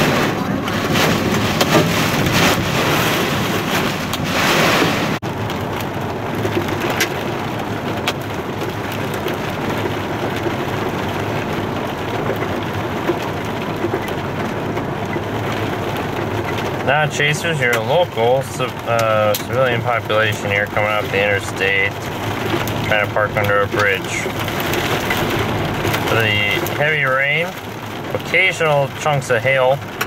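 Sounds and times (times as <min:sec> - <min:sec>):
hail knocks: 0:00.0 - 0:30.0
heavy rain on car roof: 0:00.0 - 0:30.0.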